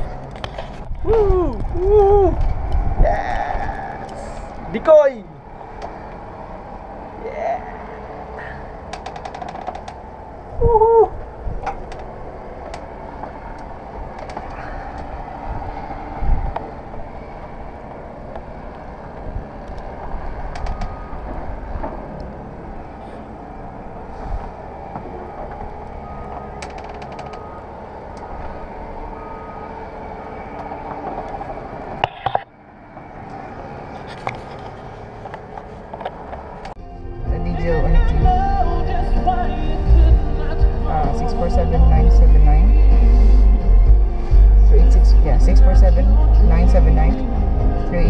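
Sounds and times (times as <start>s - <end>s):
vehicle running rumble: 0.0s - 48.0s.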